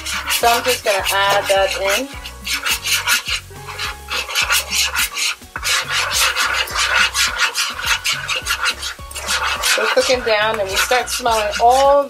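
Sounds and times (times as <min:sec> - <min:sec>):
background music with beat: 0:00.0 - 0:12.0
spoon scraping frying pan: 0:00.0 - 0:12.0.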